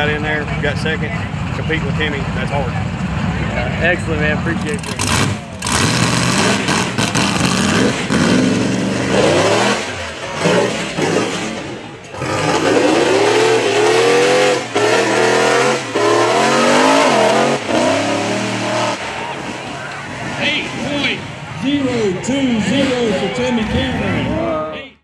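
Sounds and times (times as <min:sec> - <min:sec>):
race buggy engine revving: 0:00.0 - 0:25.0.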